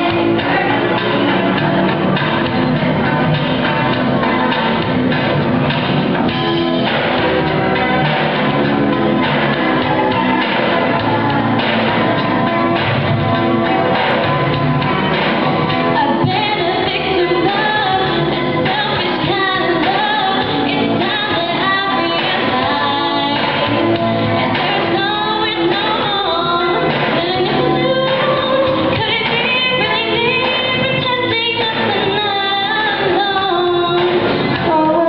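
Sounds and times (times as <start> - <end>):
girls' choir singing pop song: 0.0 - 35.0
lead voice singing: 0.0 - 35.0
pop accompaniment: 0.0 - 35.0.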